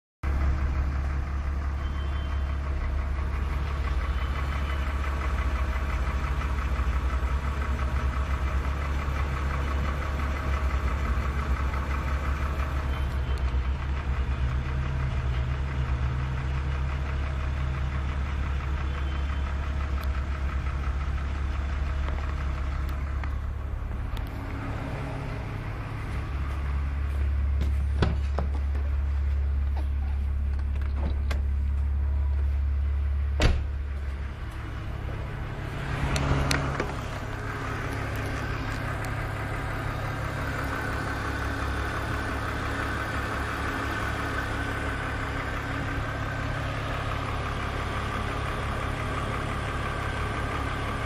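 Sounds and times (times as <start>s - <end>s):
car engine idling: 0.2s - 51.0s.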